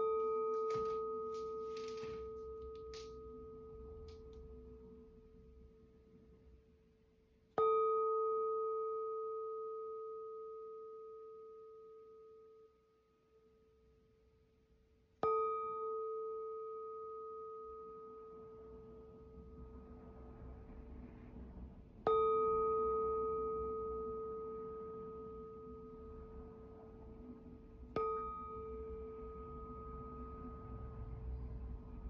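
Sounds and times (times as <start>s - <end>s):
singing bowl ringing: 0.0s - 6.7s, 7.6s - 14.3s, 15.2s - 20.6s, 22.0s - 32.0s.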